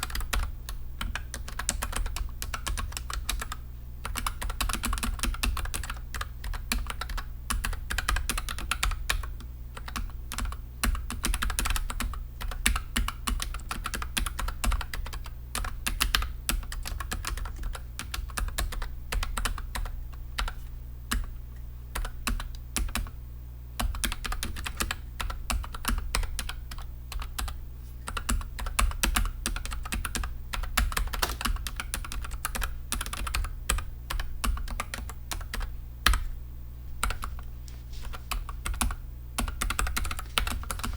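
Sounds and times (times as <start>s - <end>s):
mechanical keyboard typing: 0.0s - 21.3s, 22.0s - 23.1s, 23.8s - 36.3s, 37.0s - 37.5s, 38.1s - 40.9s.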